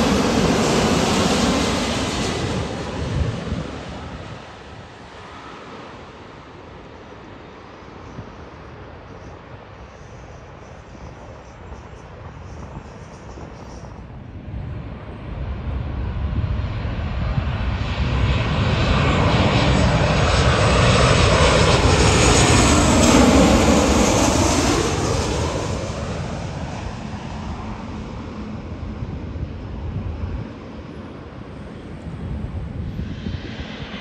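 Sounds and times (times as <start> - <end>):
airliner flying past: 0.0 - 34.0.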